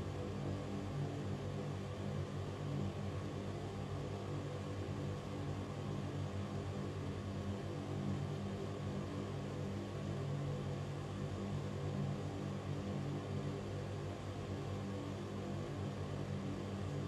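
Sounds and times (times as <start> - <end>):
low constant hum: 0.0 - 17.0
ventilation fan air hiss: 0.0 - 17.0.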